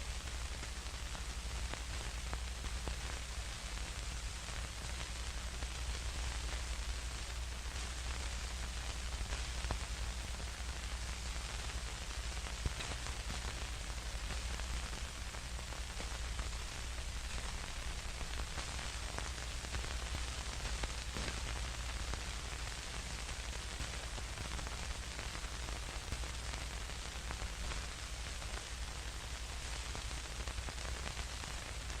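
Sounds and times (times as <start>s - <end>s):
faint clicks and crackles: 0.0s - 32.0s
steady static hiss: 0.0s - 32.0s.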